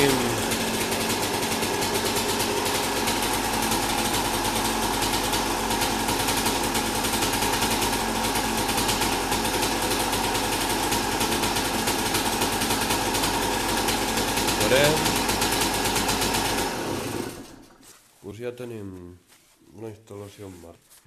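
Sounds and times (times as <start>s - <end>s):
motorcycle engine idling: 0.0s - 17.8s.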